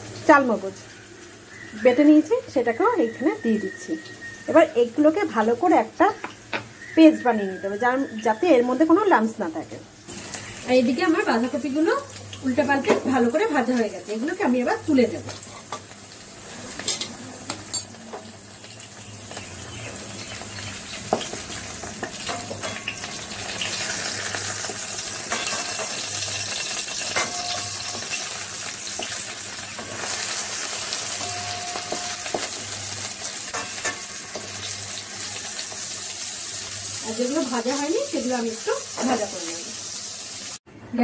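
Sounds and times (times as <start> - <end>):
cabbage sizzling in hot oil: 0.0 - 40.6.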